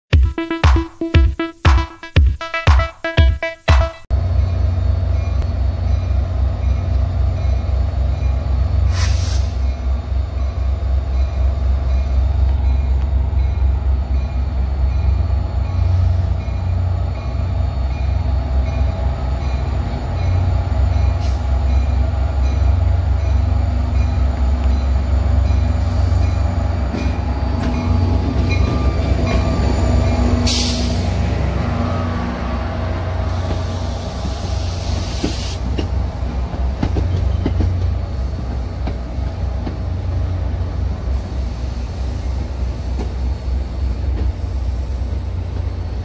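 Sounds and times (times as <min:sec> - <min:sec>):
diesel locomotive engine drone: 0:04.1 - 0:46.0.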